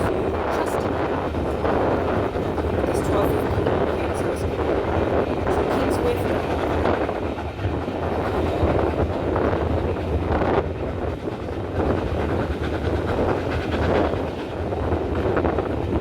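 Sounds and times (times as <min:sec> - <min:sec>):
train rattling over rails: 0:00.0 - 0:16.0.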